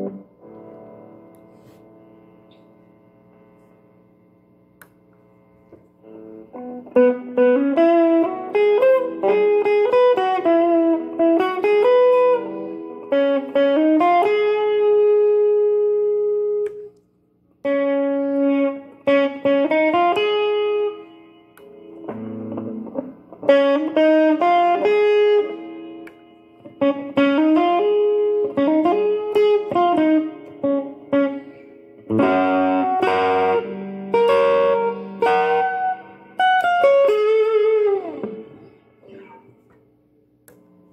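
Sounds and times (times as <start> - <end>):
swing electric guitar melody: 0.0 - 2.9, 6.0 - 17.0, 17.6 - 39.7
strummed guitar chords: 0.0 - 3.7, 4.8 - 16.9, 17.6 - 40.9.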